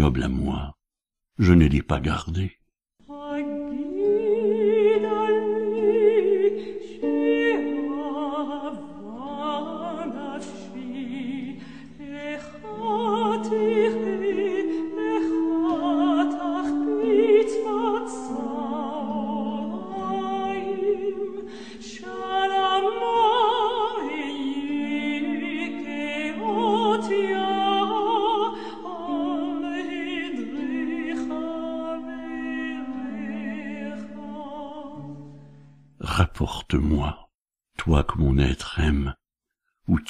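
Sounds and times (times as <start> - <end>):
classical singing with vibrato: 3.0 - 35.5.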